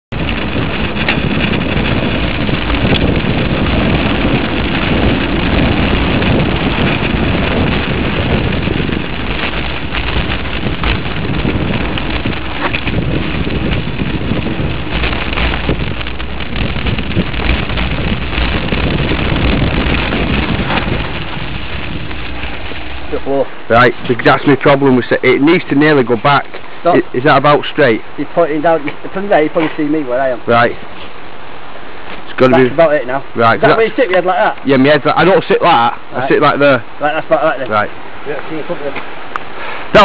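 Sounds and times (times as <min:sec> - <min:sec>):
wind buffeting microphone: 0:00.1 - 0:40.0.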